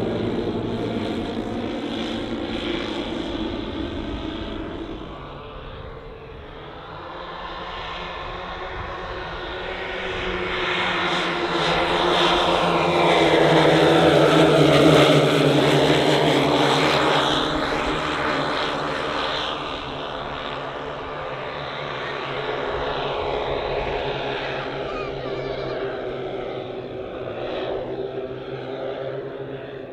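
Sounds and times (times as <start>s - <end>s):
model plane engines droning: 0.0s - 29.9s.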